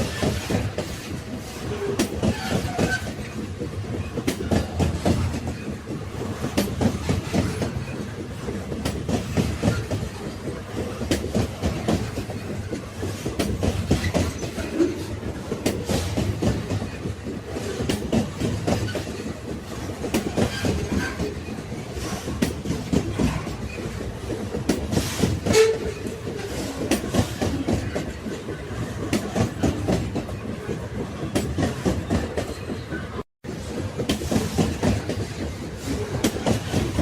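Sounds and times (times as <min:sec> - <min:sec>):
railway carriages rumbling: 0:00.0 - 0:37.0.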